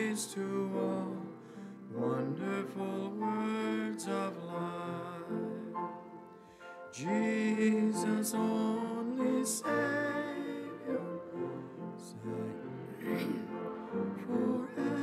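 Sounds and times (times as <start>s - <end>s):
person singing a slow hymn: 0.0s - 15.0s.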